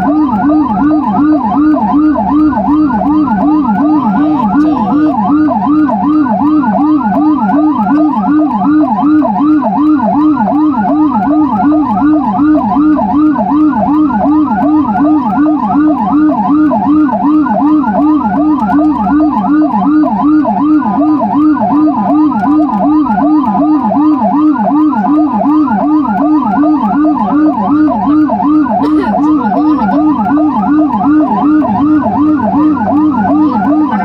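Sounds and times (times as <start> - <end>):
emergency sirens yelping: 0.0 - 34.0.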